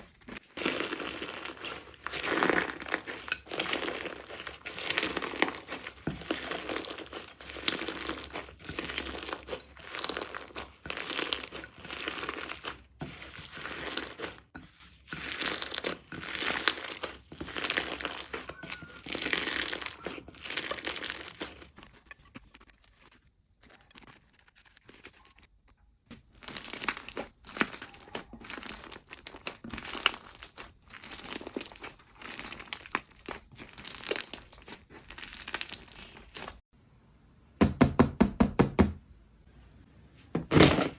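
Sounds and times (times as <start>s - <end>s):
slime squishing by hand: 0.0s - 36.6s.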